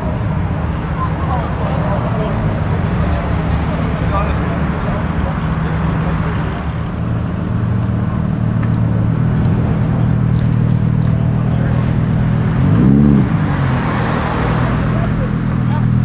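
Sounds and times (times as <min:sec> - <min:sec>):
engine rev: 0:00.0 - 0:16.0
sports car engine at low revs: 0:00.0 - 0:16.0.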